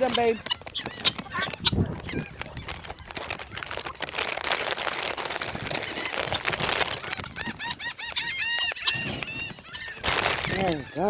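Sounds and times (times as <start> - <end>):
birds calling: 0.0 - 11.0
rustling with small clicks: 0.4 - 9.4.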